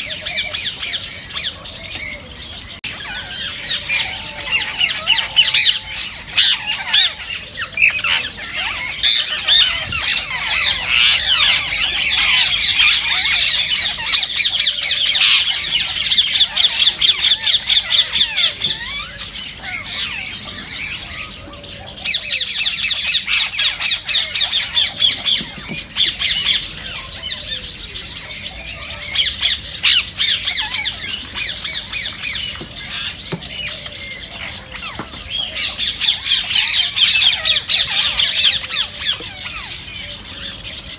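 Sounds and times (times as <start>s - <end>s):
parakeets screeching: 0.0s - 40.9s.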